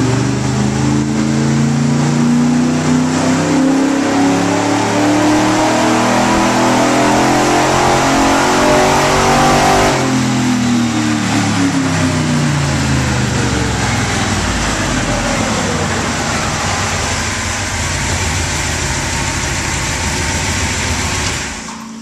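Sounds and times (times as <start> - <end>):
car engine running hard: 0.0 - 22.0.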